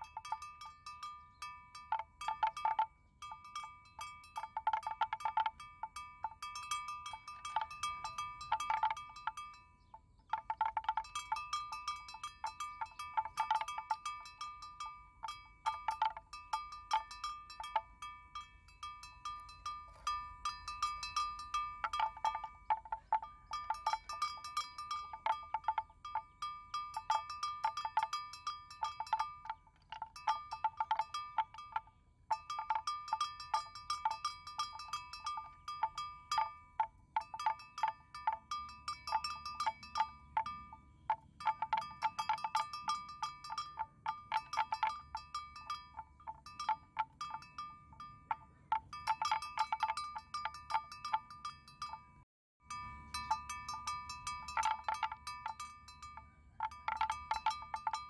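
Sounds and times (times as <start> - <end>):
neck bell clanking: 0.0 - 58.0.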